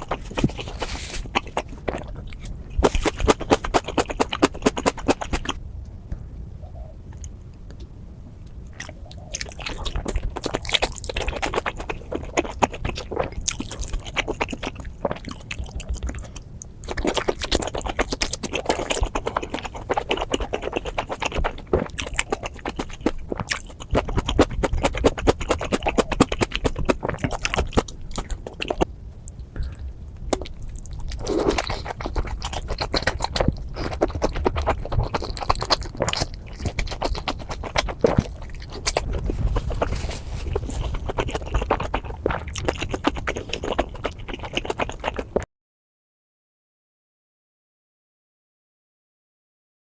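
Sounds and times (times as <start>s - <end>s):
close chewing and mouth sounds: 0.0s - 5.6s, 6.7s - 45.5s.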